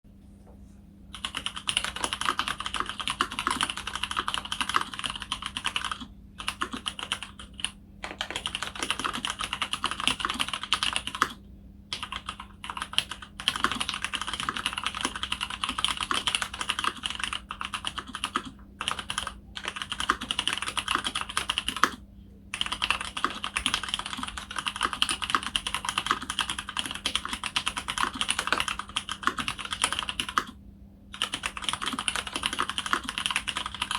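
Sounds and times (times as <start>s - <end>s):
fast typing on mechanical keyboard: 1.1s - 33.9s.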